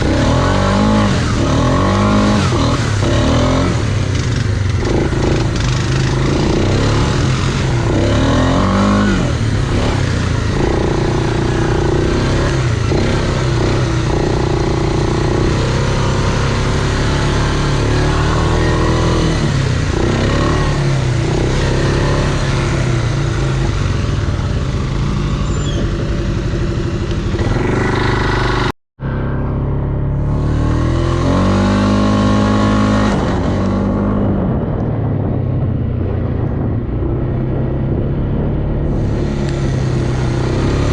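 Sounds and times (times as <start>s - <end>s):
off-road vehicle engines revving: 0.0s - 28.7s, 30.1s - 35.0s, 37.5s - 40.9s.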